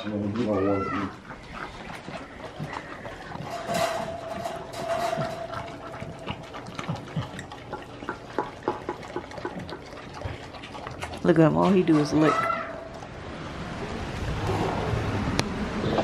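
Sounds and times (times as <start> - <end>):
dog lapping food: 0.0 - 13.2.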